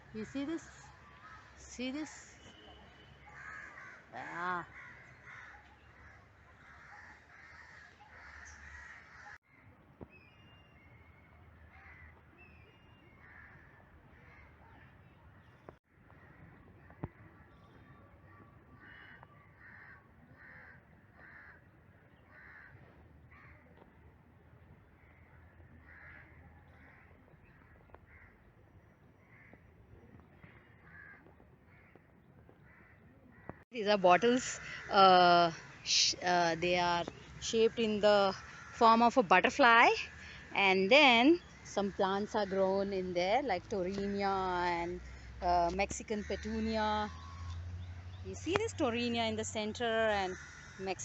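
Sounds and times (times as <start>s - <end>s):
faint crows cawing: 0.6s - 9.8s, 11.6s - 24.0s, 24.6s - 51.0s.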